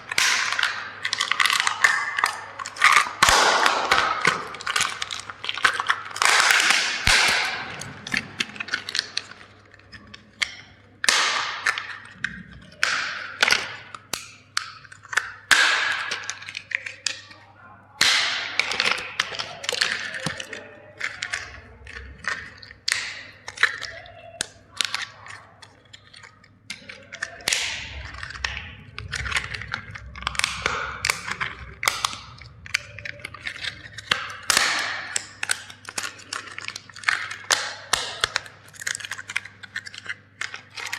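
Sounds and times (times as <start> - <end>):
plastic cracking and snapping: 0.0 - 40.9.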